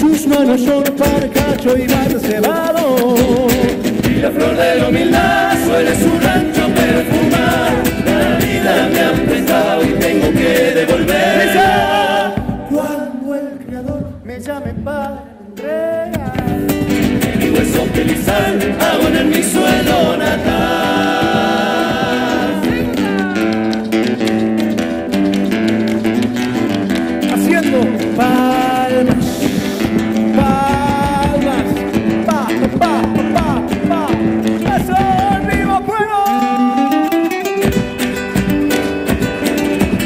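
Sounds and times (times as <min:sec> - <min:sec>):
acoustic guitars: 0:00.0 - 0:40.0
drums: 0:00.0 - 0:40.0
men singing together: 0:00.2 - 0:23.7, 0:27.4 - 0:37.3.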